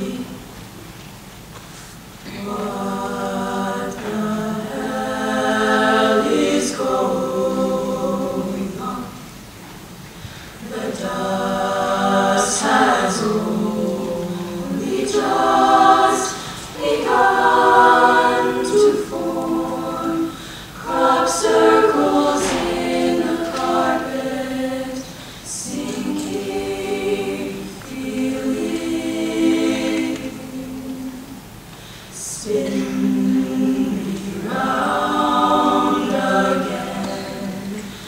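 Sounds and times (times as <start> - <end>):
women singing a cappella harmony: 0.0 - 0.6, 2.2 - 9.6, 10.3 - 38.0.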